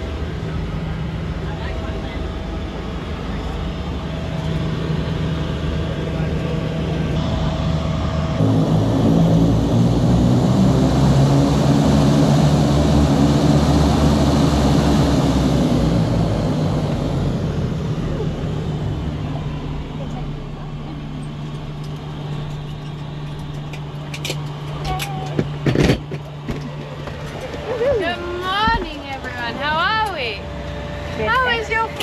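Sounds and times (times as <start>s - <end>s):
propeller engine droning: 0.0s - 32.0s.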